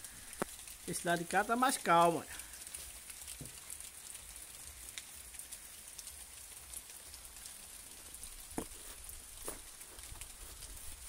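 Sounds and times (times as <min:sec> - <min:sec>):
drips ticking: 0:00.0 - 0:11.0
steady rain falling: 0:00.0 - 0:11.0.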